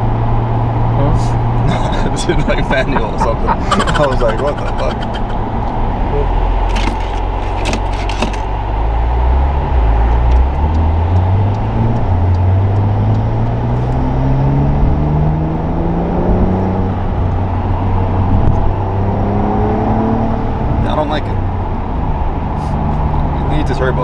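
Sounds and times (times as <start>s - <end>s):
car engine accelerating: 0.0s - 24.0s
road and tyre noise: 0.0s - 24.0s.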